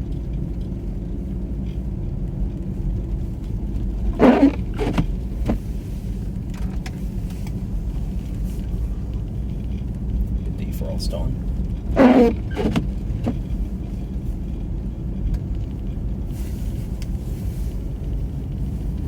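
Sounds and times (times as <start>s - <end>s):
car engine rumble: 0.0s - 19.0s
tyres on snowy road: 0.0s - 19.0s.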